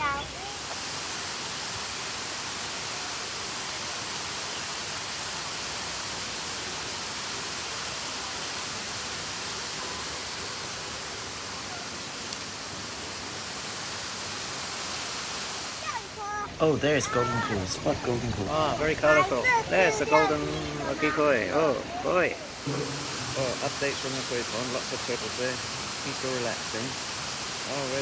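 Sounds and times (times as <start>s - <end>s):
running water: 0.0s - 28.0s.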